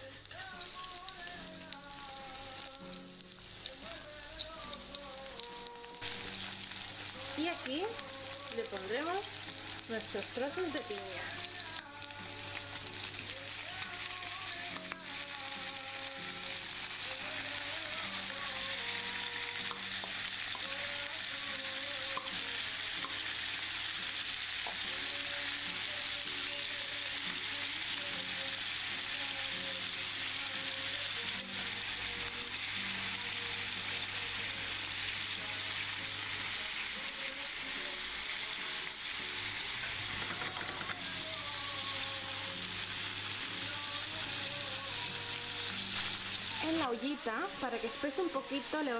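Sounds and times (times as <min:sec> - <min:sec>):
meat sizzling in a frying pan: 0:00.0 - 0:48.9.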